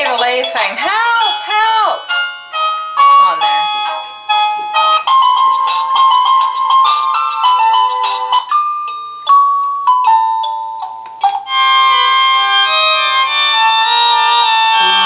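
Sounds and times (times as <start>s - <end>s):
doorbell electronic chime tunes: 0.0s - 15.0s.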